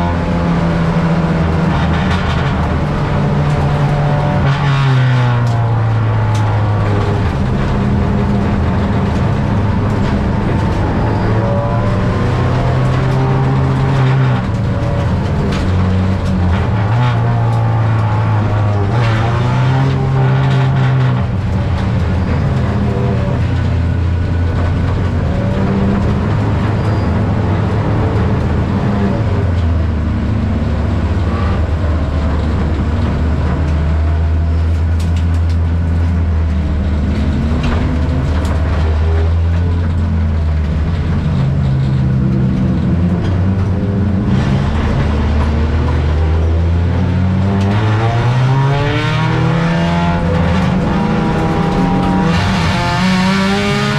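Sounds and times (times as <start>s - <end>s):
race car engine running: 0.0s - 53.9s.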